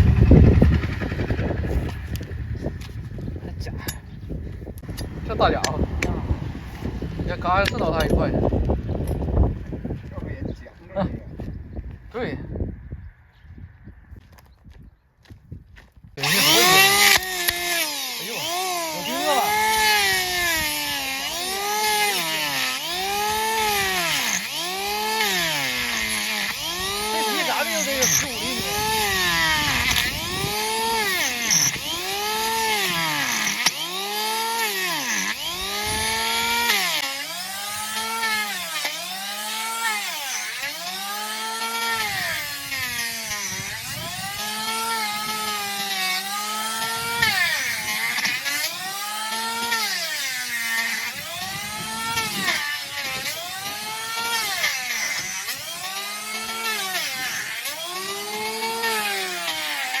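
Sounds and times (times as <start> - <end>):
electric tool motor whine: 0.0 - 10.6, 16.2 - 60.0.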